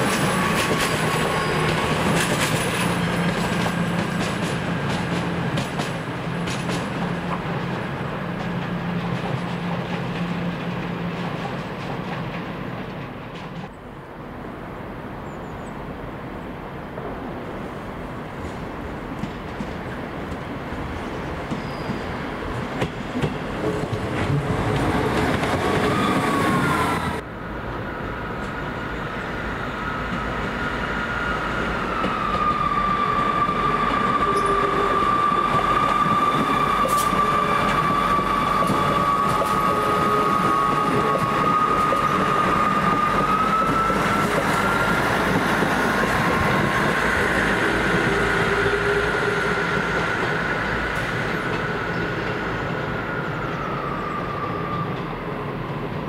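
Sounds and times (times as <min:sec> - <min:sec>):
train whining tone: 0:00.0 - 0:11.8, 0:21.0 - 0:56.0
train rumble: 0:00.0 - 0:56.0.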